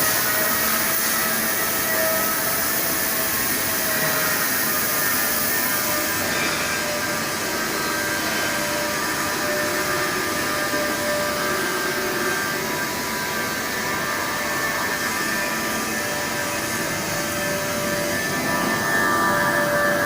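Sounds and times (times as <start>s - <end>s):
machining hiss: 0.0s - 20.0s
milling machine whining: 0.0s - 20.0s.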